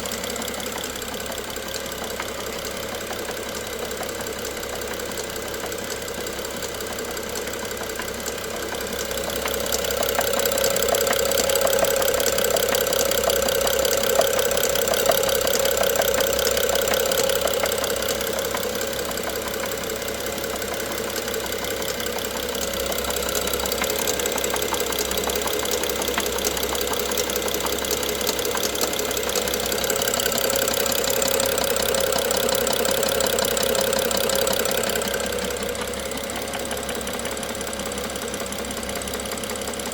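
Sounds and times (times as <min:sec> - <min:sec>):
car engine running: 0:00.0 - 0:39.9
rapid engine knock: 0:00.0 - 0:39.9.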